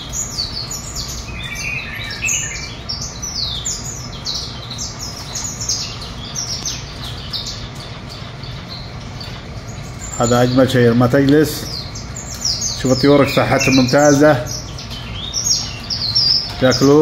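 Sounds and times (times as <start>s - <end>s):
songbirds chirping and singing: 0.0s - 17.0s.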